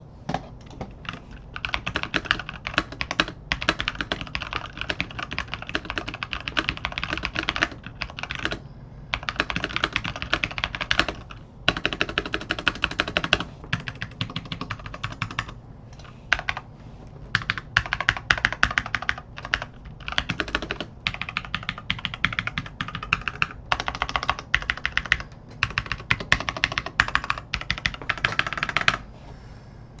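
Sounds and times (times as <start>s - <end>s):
mechanical keyboard typing: 0.6s - 15.6s, 16.3s - 16.6s, 17.3s - 29.0s.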